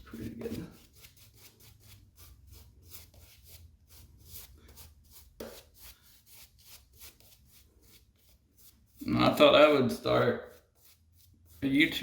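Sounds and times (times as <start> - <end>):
shaving brush swishing in lather: 0.0 - 12.0.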